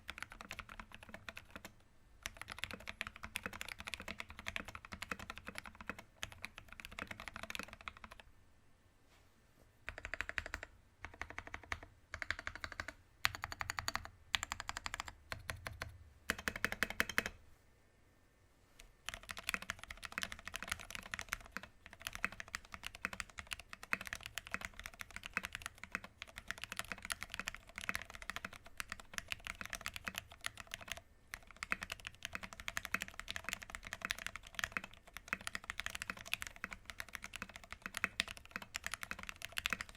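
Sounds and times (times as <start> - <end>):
typing on mechanical keyboard: 0.0 - 8.3, 9.9 - 17.4, 19.0 - 39.9.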